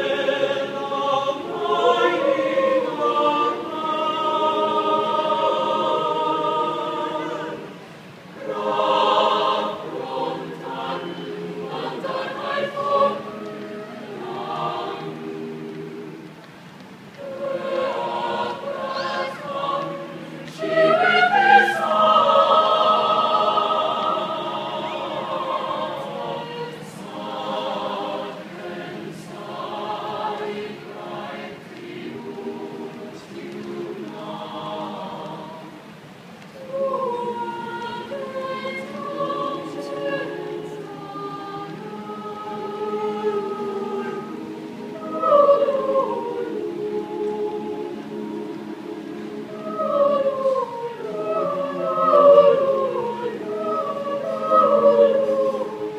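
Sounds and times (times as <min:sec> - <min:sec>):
choir singing a cappella: 0:00.0 - 0:55.9.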